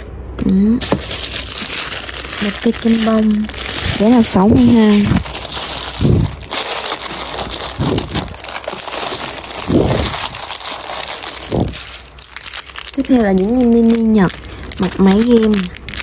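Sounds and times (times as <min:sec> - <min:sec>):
plastic bags crinkling: 0:00.8 - 0:16.0.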